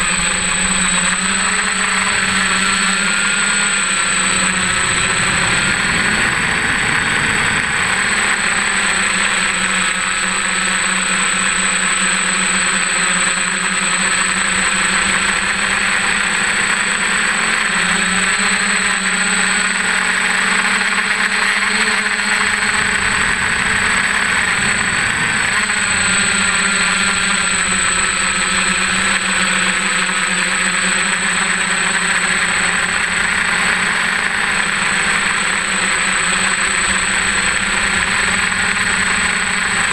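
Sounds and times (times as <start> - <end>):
drone motors buzzing whine: 0.0 - 39.9.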